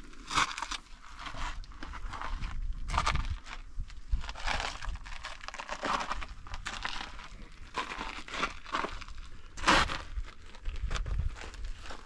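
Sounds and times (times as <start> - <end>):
footsteps crunching on loose ground: 0.0 - 12.0.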